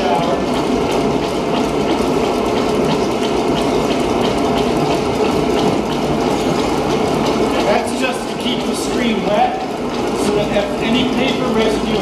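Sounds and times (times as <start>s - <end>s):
machine gear clatter: 0.0s - 12.0s
regular mechanical click: 0.0s - 12.0s.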